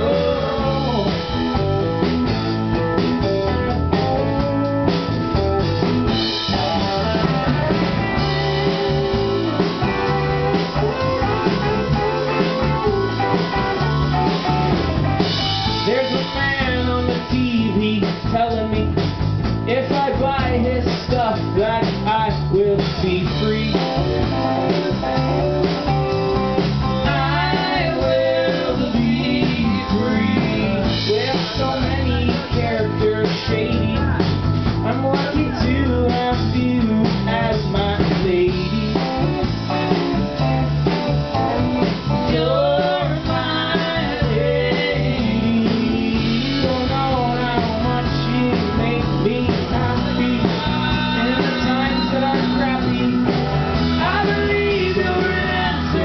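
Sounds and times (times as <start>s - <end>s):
person singing: 0.0s - 1.6s, 6.6s - 19.0s, 19.7s - 25.8s, 27.0s - 39.5s, 41.4s - 56.0s
bass guitar: 0.0s - 56.0s
drum kit: 0.0s - 56.0s
electric guitar: 0.0s - 56.0s
keyboard: 0.0s - 56.0s.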